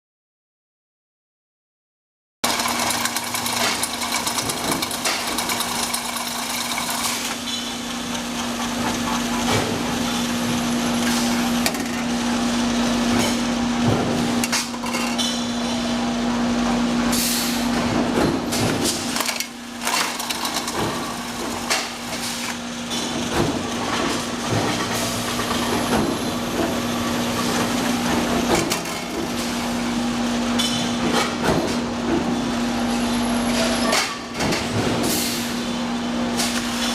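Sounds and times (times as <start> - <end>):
steady machine hum: 2.4 - 36.9.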